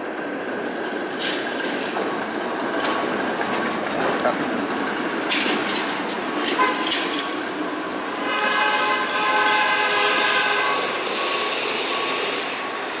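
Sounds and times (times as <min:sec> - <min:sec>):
streetcar high whining: 0:00.0 - 0:13.0
streetcar knocking on track: 0:01.1 - 0:13.0.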